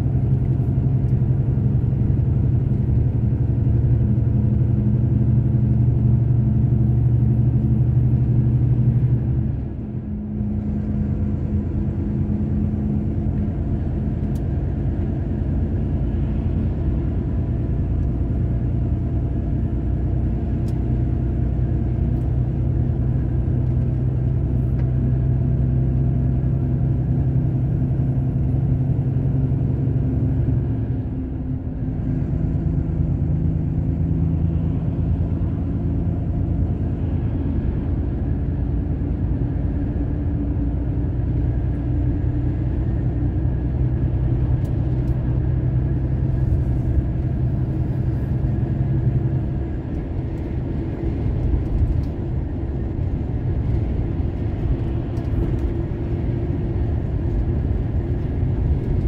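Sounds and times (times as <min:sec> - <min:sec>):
truck engine drone in cab: 0:00.0 - 0:59.0.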